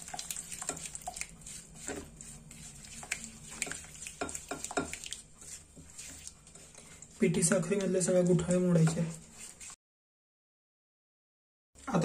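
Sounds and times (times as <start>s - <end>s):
spatula scraping glass bowl: 0.0s - 9.8s.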